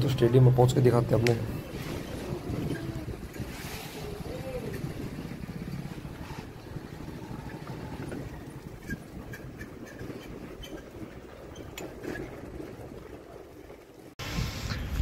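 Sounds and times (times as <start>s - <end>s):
motor scooter rumbling: 0.0s - 15.0s.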